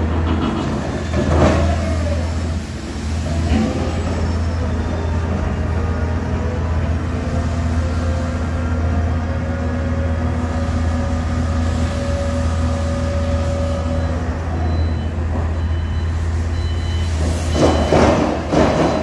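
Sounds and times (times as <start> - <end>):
diesel engine droning: 0.0 - 19.0
rough loud machine noise: 0.0 - 19.0.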